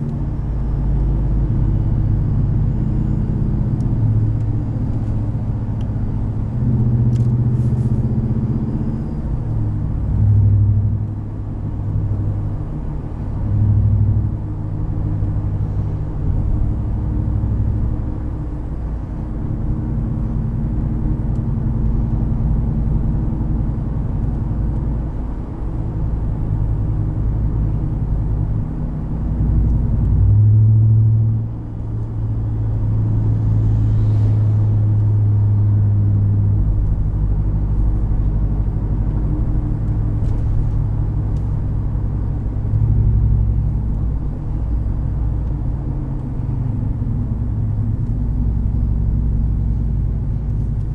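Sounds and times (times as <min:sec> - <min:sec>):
pickup truck engine and exhaust drone: 0:00.0 - 0:50.9.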